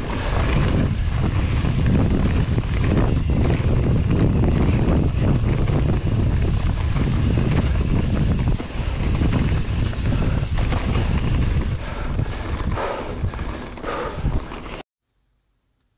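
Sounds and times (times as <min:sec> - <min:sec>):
bike rattling over bumps: 0:00.0 - 0:14.8
tyres rumbling on dirt: 0:00.0 - 0:14.8
wind buffeting microphone: 0:00.0 - 0:14.8.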